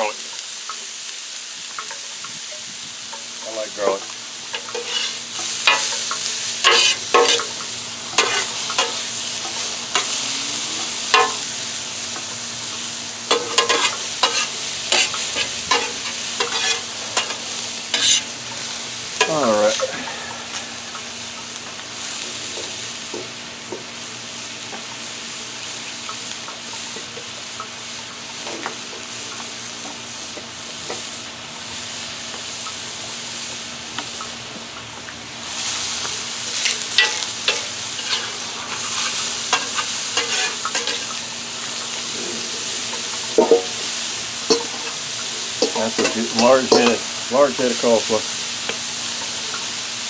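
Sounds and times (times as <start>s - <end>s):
onion and garlic sizzling on griddle: 0.0s - 50.0s
food crackling with sharp ticks: 0.2s - 10.2s, 10.8s - 20.0s, 25.8s - 31.0s, 32.2s - 35.2s, 35.9s - 50.0s.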